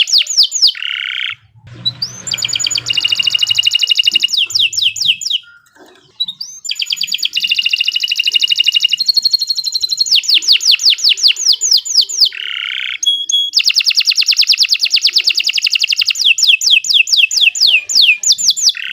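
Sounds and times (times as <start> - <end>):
canary singing: 0.0 - 18.9.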